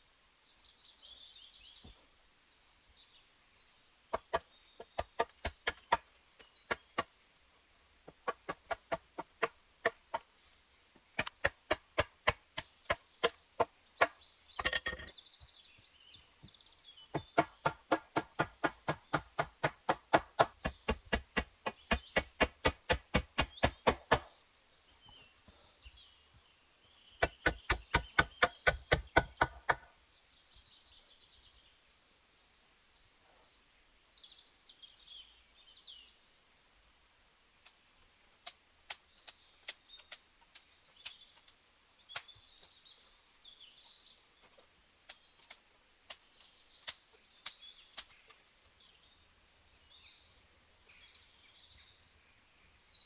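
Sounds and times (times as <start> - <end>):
faint birdsong: 0.0 - 53.0.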